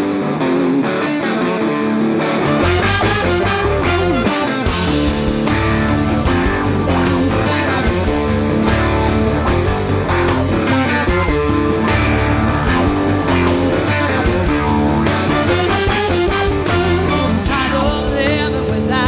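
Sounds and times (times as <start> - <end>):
bass: 0.0 - 19.0
guitar: 0.0 - 19.0
steady drum beat: 2.6 - 19.0.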